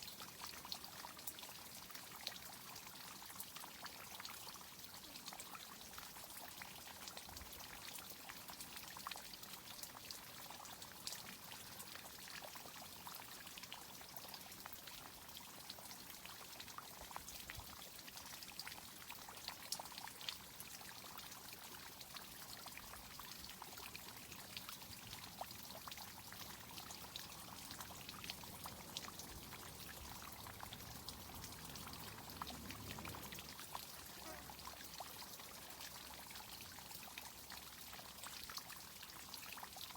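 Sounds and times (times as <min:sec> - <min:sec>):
small drips pattering: 0:00.0 - 0:39.9
water pouring and trickling: 0:00.0 - 0:39.9.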